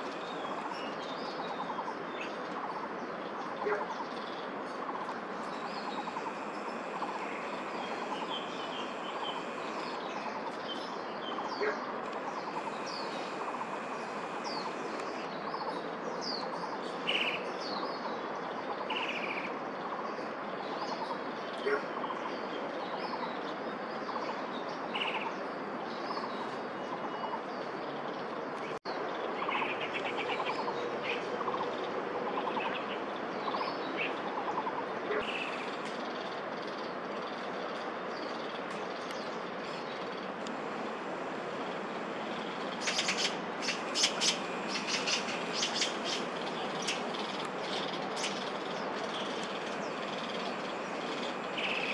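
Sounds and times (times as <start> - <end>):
harsh rattling bird calls: 0.0 - 25.4, 26.0 - 51.9
birds chirping: 0.0 - 51.9.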